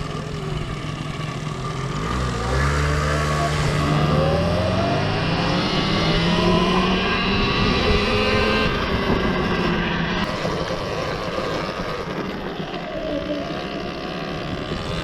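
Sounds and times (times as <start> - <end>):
electric motor whine: 0.0 - 15.0
wind and tyre noise: 0.0 - 15.0.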